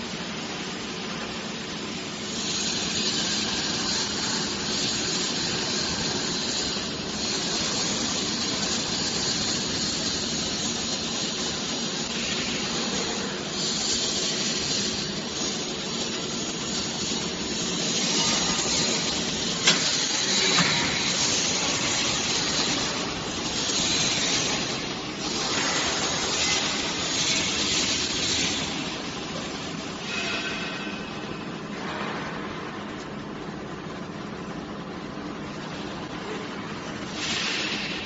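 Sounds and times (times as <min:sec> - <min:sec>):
machinery hissing and humming: 0:00.0 - 0:38.0.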